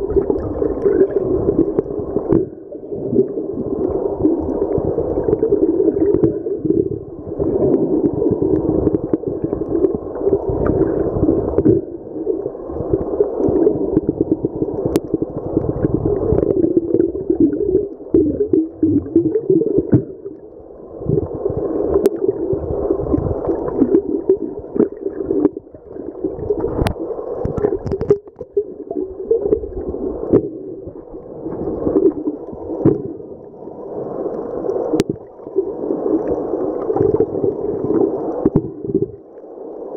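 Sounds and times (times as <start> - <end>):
muffled underwater rumbling hiss: 0.0 - 39.9.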